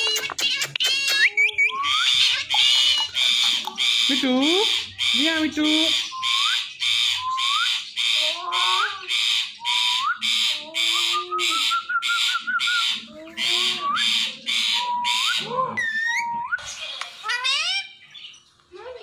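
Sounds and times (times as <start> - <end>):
parrot screeching: 0.0 - 18.0
parrot warbling: 0.0 - 18.0.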